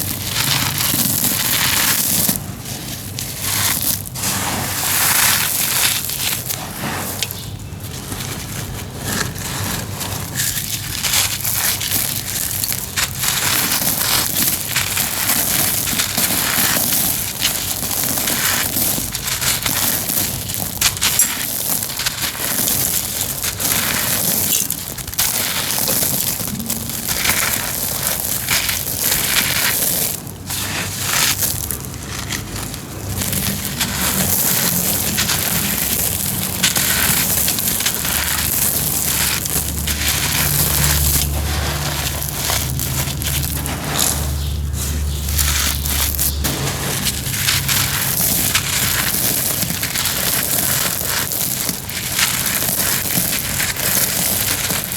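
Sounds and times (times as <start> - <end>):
cement crushing and crunching: 0.0 - 54.9.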